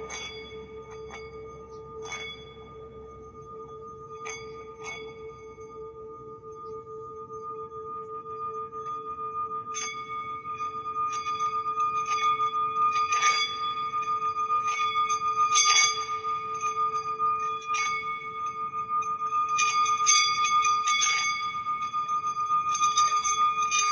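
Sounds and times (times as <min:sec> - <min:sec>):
metal bowl struck ringing: 0:00.0 - 0:23.9
singing bowl humming: 0:00.0 - 0:23.9.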